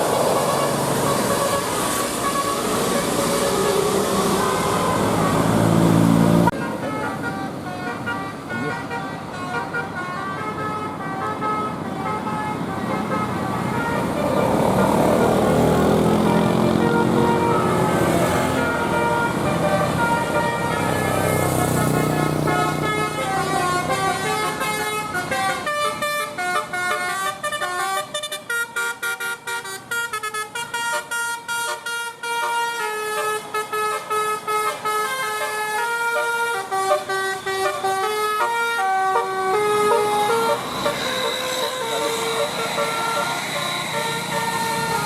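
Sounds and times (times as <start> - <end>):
bus horn playing a melody: 0.0 - 45.0.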